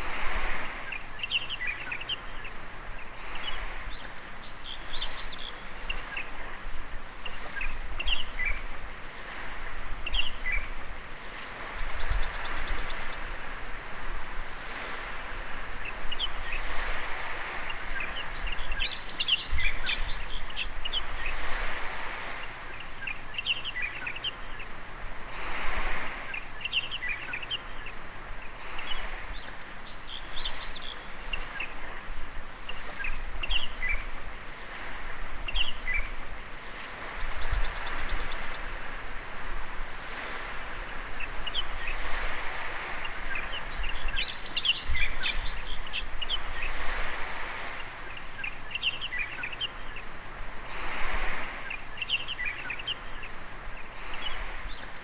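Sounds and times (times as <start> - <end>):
waves on a beach: 0.0 - 55.0
small birds chirping: 0.4 - 13.9, 14.7 - 24.8, 25.9 - 39.1, 40.0 - 55.0.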